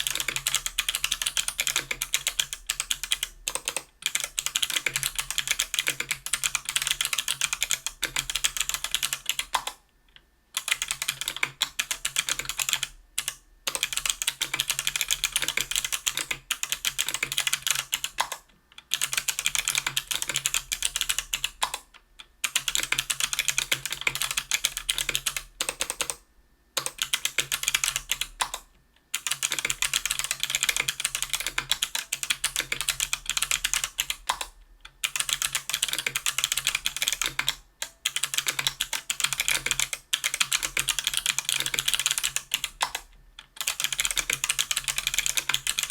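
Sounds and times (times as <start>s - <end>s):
clicky keyboard typing: 0.0s - 26.2s, 26.8s - 45.9s.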